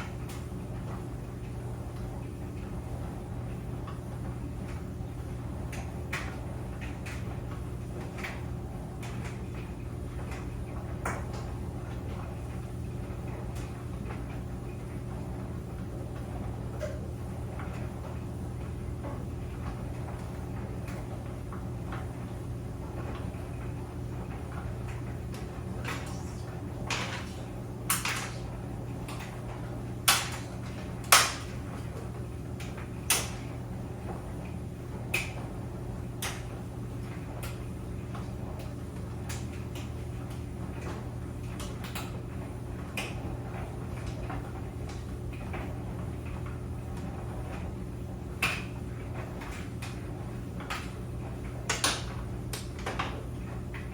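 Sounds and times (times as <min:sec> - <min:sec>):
clothes dryer humming: 0:00.0 - 0:53.9.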